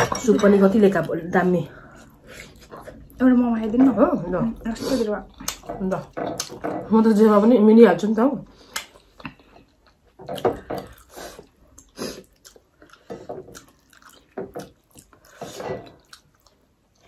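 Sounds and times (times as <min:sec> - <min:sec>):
wet eating and chewing: 0:00.8 - 0:06.8, 0:08.5 - 0:17.0.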